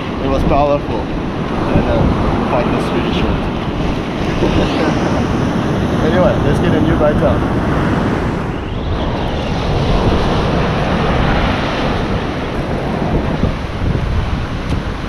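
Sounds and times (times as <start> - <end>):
ocean surf on shore: 0.0 - 15.0
wind buffeting microphone: 0.0 - 15.0.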